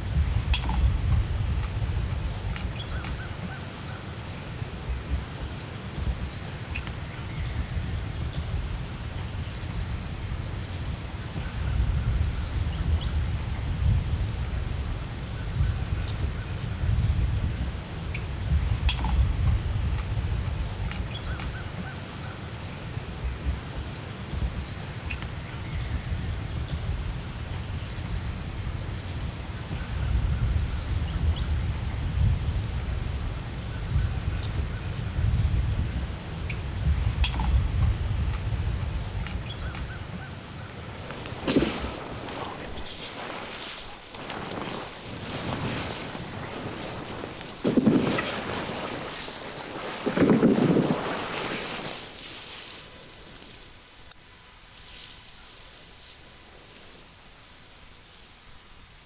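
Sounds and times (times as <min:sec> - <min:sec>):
songbirds chirping: 0:00.0 - 0:58.8
wind rumbling on microphone: 0:00.0 - 0:59.0.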